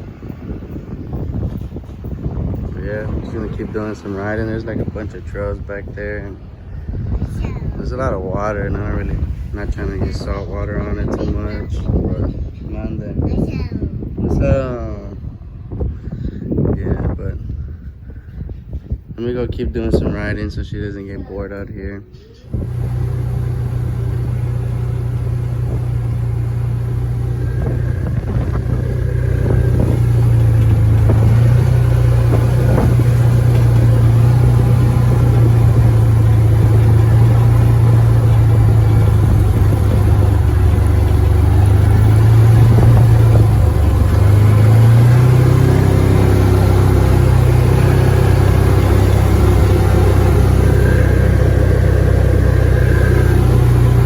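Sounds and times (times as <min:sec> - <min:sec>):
utility vehicle engine running: 0:00.0 - 0:15.8, 0:22.4 - 0:54.0.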